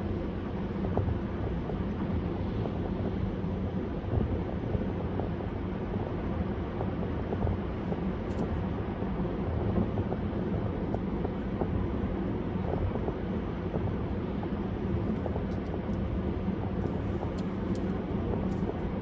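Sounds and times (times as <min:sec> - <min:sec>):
car road and tyre noise: 0:00.0 - 0:19.0.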